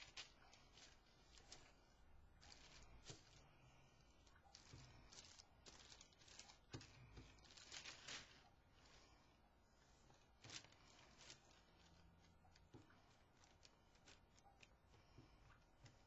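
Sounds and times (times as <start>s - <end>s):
tissue paper crinkling and tearing: 0.0s - 9.2s, 10.0s - 14.8s.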